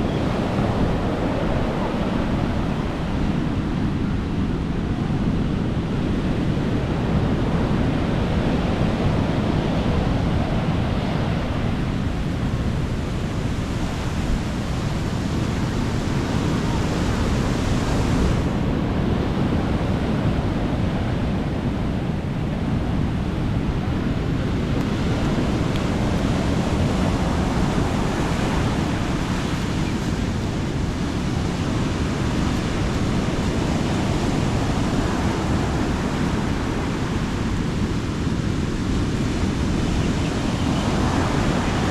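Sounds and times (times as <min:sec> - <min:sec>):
sea waves washing on beach: 0:00.0 - 0:41.9
wind rumbling on microphone: 0:00.0 - 0:41.9.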